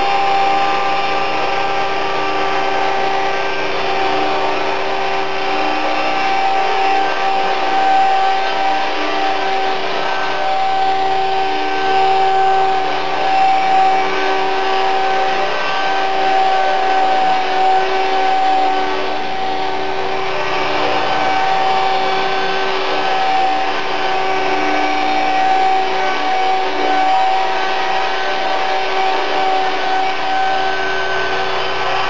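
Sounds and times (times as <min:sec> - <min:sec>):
model helicopter motor whine: 0:00.0 - 0:32.0
rotor blades rushing: 0:00.0 - 0:32.0.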